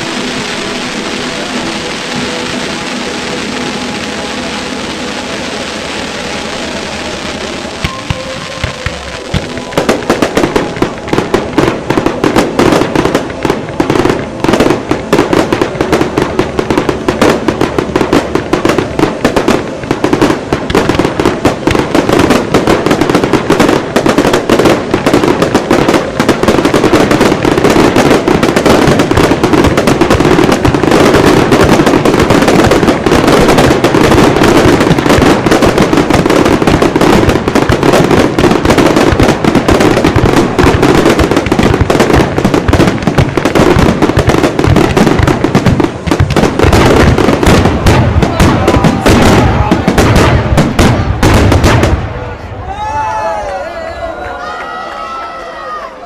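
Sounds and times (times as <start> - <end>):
firecrackers banging: 0.0 - 55.8.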